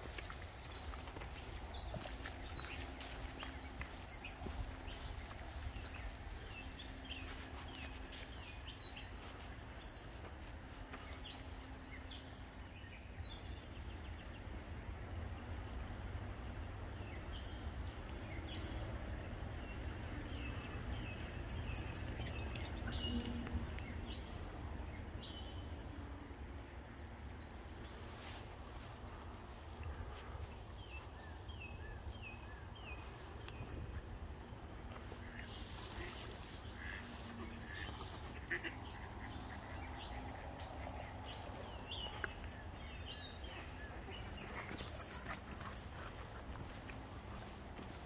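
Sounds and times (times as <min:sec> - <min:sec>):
small birds chirping: 0:00.0 - 0:15.2, 0:17.0 - 0:25.8, 0:27.2 - 0:48.0.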